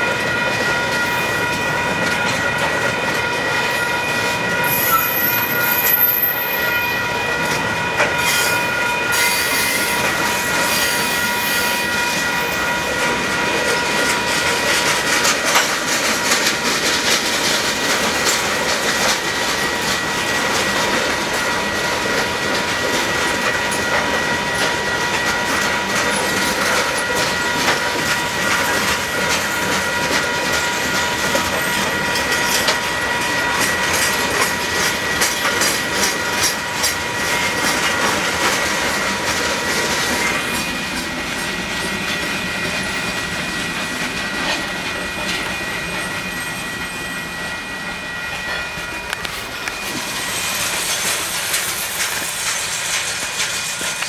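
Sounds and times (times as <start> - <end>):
train wheels clacking over rail joints: 0.0 - 47.2, 48.3 - 54.0
high ringing tones: 0.0 - 52.7.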